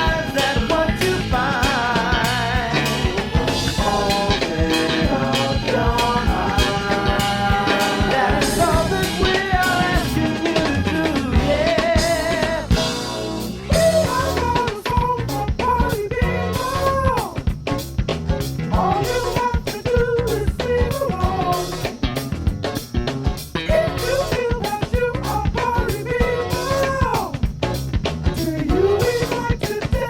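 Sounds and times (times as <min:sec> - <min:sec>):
drum-kit beat: 0:00.0 - 0:30.0
rock band playing: 0:00.0 - 0:30.0.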